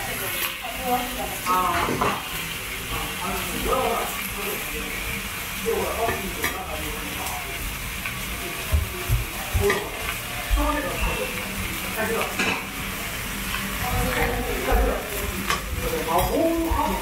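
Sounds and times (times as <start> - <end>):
batter sizzling on a griddle: 0.0 - 17.0.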